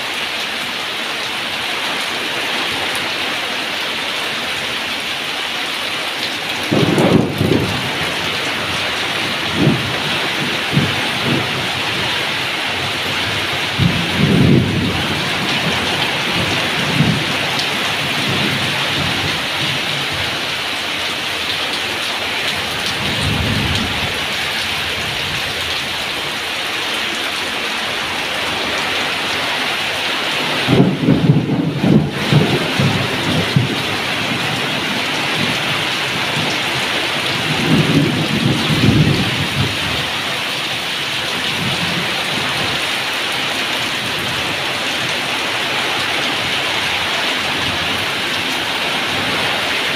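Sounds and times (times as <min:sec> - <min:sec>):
heavy rain on tin roofs: 0:00.0 - 0:49.9.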